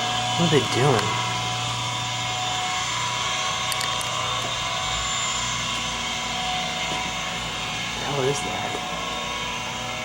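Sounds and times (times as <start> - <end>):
loader engine droning: 0.0 - 10.0.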